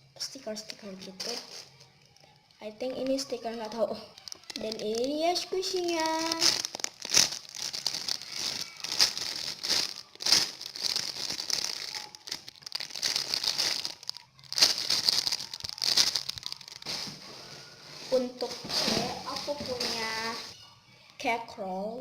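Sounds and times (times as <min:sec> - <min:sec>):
packaging crinkling and rustling: 0:00.5 - 0:21.2.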